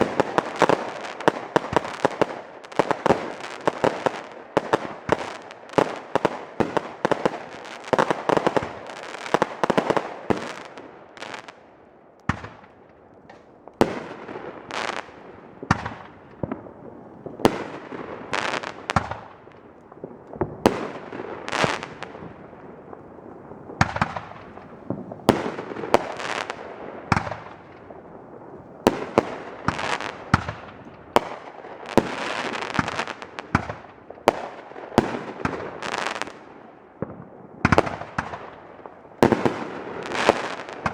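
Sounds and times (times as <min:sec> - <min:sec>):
fireworks shots and bangs: 0:00.0 - 0:11.6, 0:12.3 - 0:40.9.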